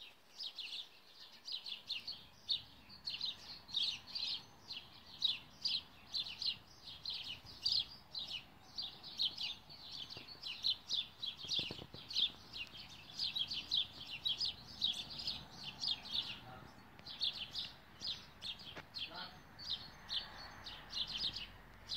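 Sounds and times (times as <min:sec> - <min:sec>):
bird chirping: 0:00.0 - 0:21.9.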